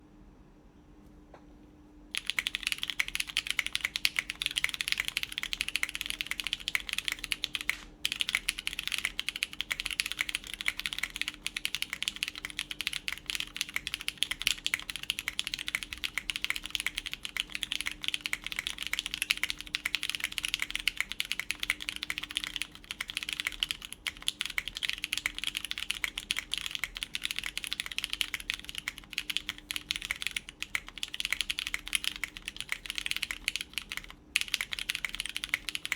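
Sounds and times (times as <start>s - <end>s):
mechanical keyboard typing: 2.2s - 35.9s.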